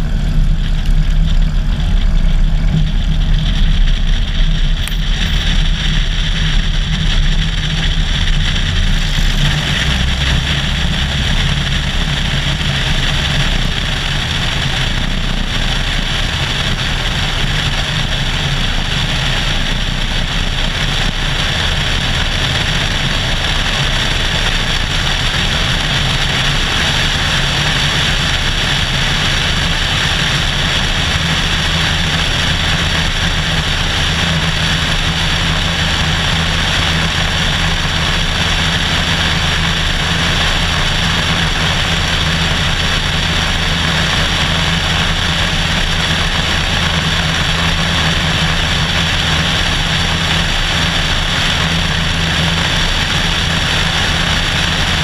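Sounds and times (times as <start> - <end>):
airplane engine and propeller: 0.0 - 55.0
wind rush: 0.0 - 55.0.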